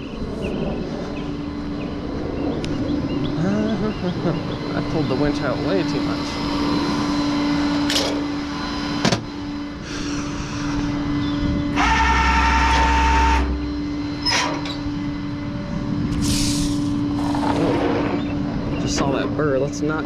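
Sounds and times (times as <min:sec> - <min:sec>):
electric winch motor whine: 0:00.0 - 0:20.0
steady hum: 0:00.0 - 0:20.0.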